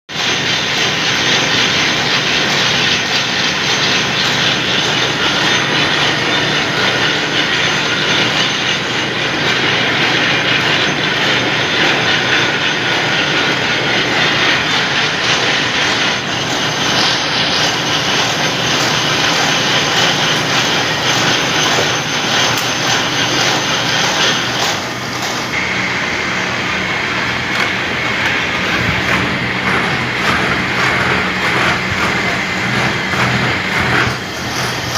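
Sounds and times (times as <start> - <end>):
constant machine hum: 0.1 - 34.9
roller machines running: 0.1 - 34.9.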